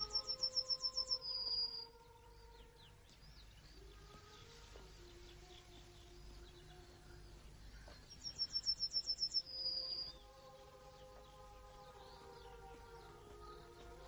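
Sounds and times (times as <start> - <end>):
faint bird chirps: 0.0 - 14.0
songbird singing loudly: 0.0 - 14.0.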